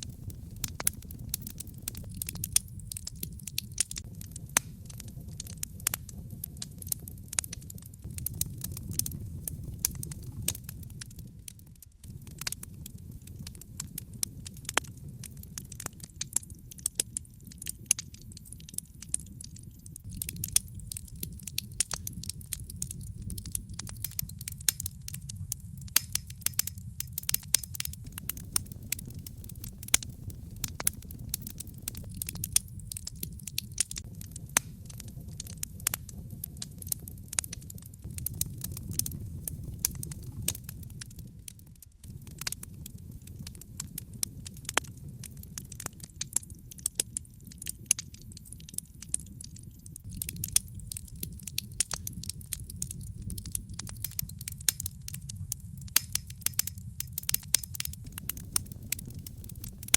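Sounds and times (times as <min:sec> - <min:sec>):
logs crackling and popping: 0:00.0 - 0:59.9
low rumble of flames: 0:00.0 - 0:59.9.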